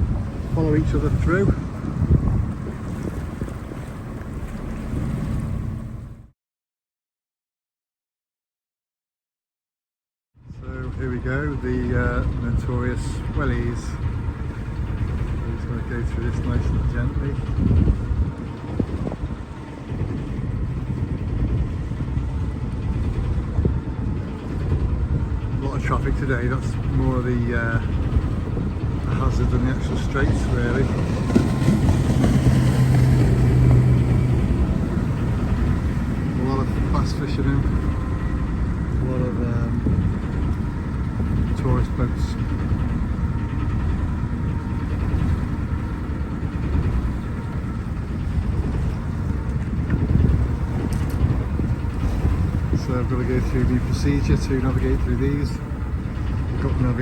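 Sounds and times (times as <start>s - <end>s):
boat engine idling: 0.0s - 6.3s, 10.6s - 57.0s
wind buffeting microphone: 0.0s - 6.3s, 10.4s - 57.0s.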